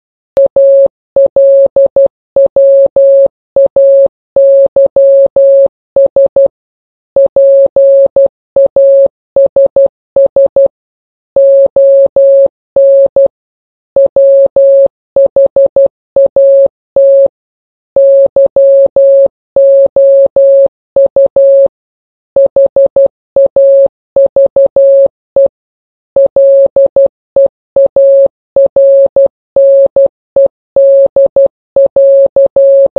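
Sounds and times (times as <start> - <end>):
morse code tone: 0.4 - 6.5, 7.2 - 10.7, 11.4 - 13.3, 14.0 - 17.3, 18.0 - 21.7, 22.4 - 25.5, 26.2 - 32.9.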